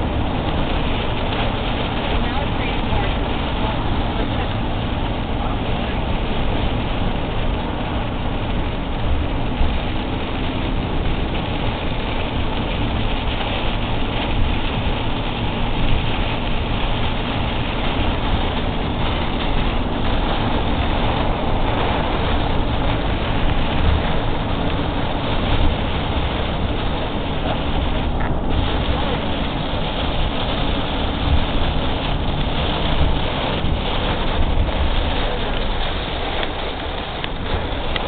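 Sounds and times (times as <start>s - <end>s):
low rumble: 0.0s - 38.0s
rain: 0.0s - 38.0s
wind noise: 0.0s - 38.0s.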